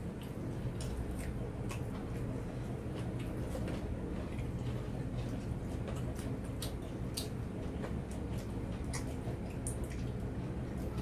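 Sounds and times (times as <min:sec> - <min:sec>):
chewing and smacking: 0:00.0 - 0:11.0.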